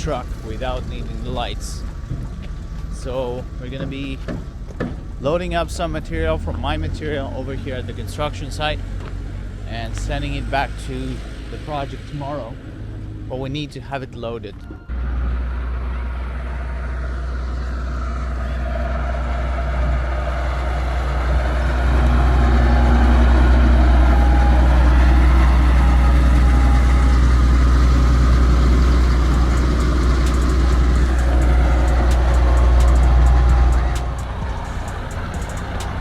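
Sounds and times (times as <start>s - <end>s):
heavy diesel engine rumbling: 0.0s - 36.0s.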